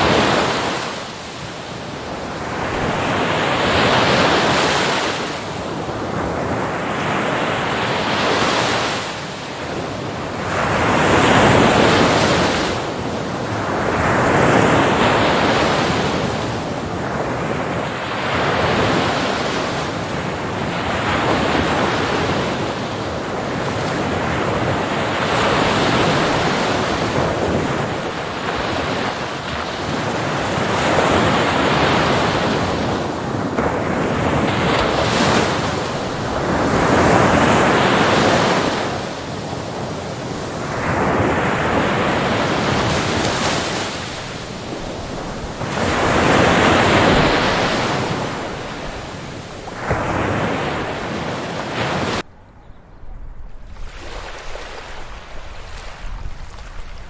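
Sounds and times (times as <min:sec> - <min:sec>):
ocean surf breaking: 0:00.0 - 0:52.3, 0:53.1 - 0:57.0
wind buffeting microphone: 0:00.0 - 0:57.0.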